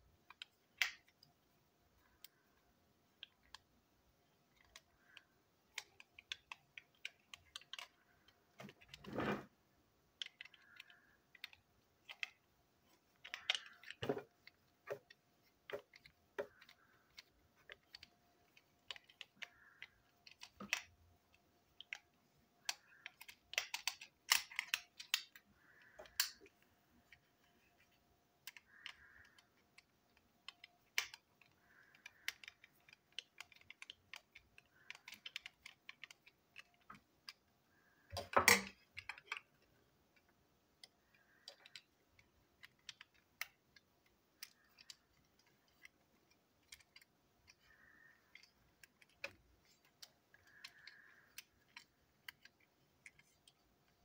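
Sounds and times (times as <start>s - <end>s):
plastic toy parts clicking: 0.1s - 1.4s, 2.0s - 54.0s.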